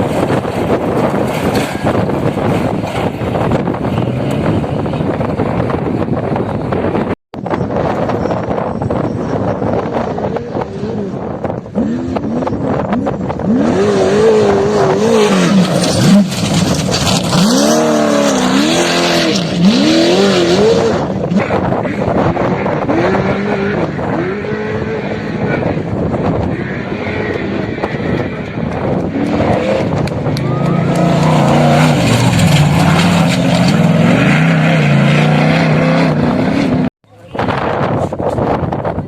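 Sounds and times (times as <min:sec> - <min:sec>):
off-road engine revving: 0:00.0 - 0:07.2, 0:09.3 - 0:38.6.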